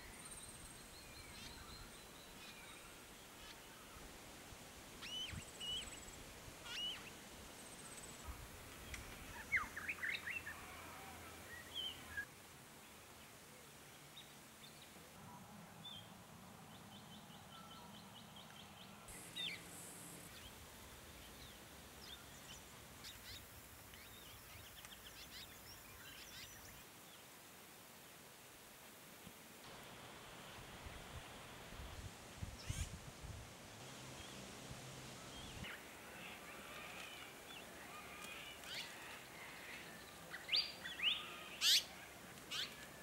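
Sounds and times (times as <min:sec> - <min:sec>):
faint outdoor background: 0:00.0 - 0:43.0.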